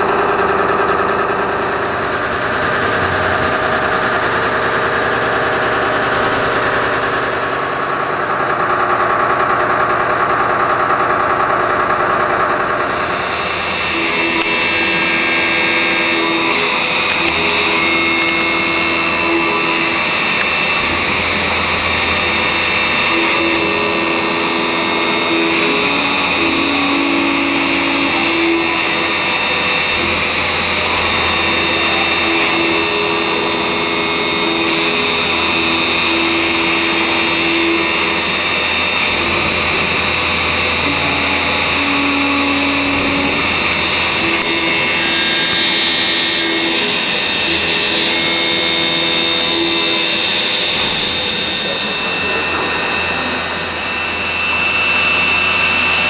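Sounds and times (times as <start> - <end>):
lathe mechanical whir: 0.0 - 56.0
spindle hum changing pitch: 0.0 - 56.0.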